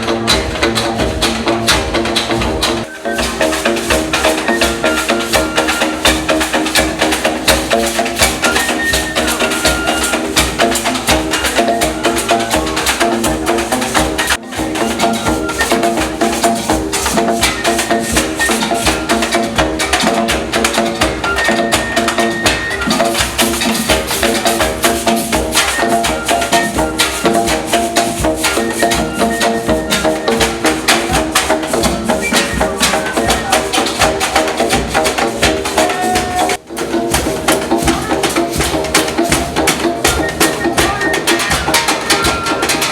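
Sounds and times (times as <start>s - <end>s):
fast percussion music: 0.0s - 42.9s.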